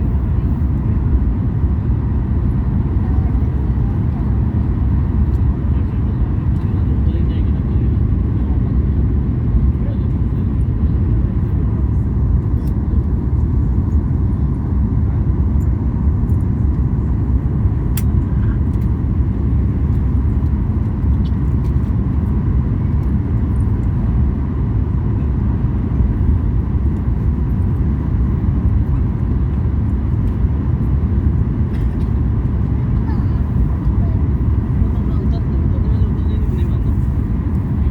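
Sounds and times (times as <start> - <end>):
airplane cabin engine rumble: 0.0 - 37.9.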